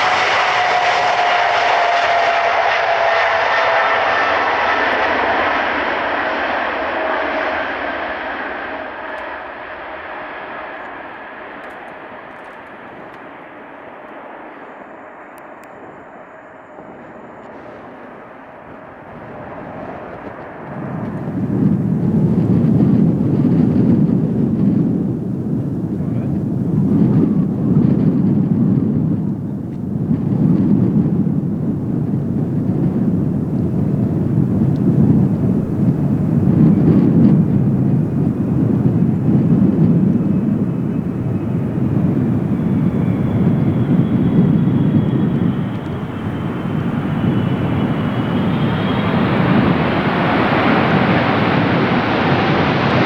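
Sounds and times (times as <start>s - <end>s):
jet engine roar: 0.0s - 53.0s.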